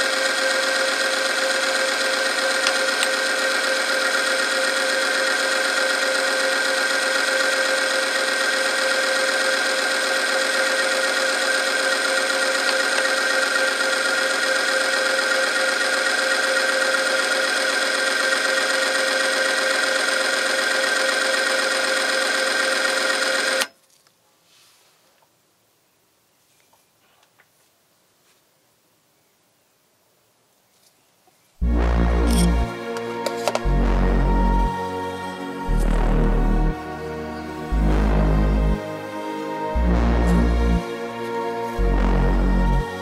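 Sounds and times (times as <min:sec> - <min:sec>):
machine motor whining: 0:00.0 - 0:23.7, 0:31.6 - 0:43.0.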